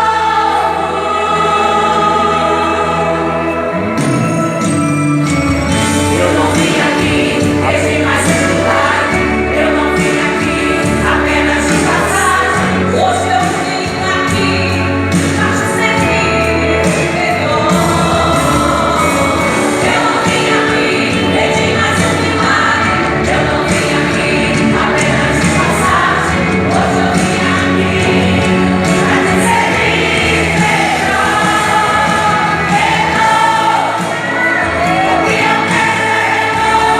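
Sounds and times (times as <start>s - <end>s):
band with steady bass: 0.0s - 36.9s
group of voices singing: 0.0s - 36.9s.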